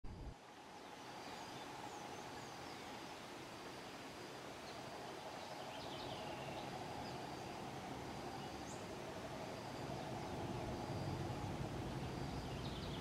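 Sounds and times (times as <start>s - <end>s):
steady hum: 0.1s - 13.0s.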